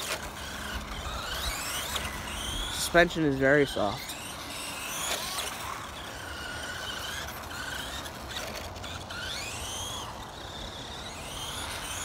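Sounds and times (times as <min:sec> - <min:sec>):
toy truck electric motor whining: 0:00.0 - 0:12.0.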